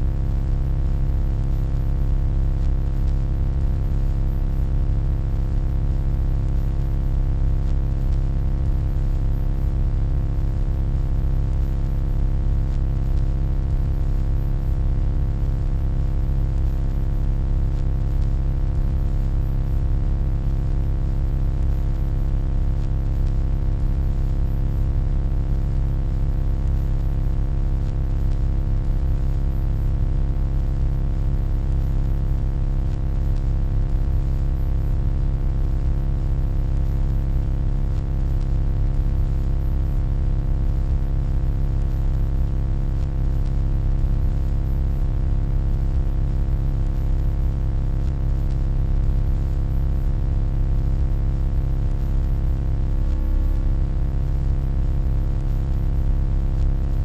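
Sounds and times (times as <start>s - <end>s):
low electronic hum: 0.0s - 55.7s, 56.3s - 57.0s.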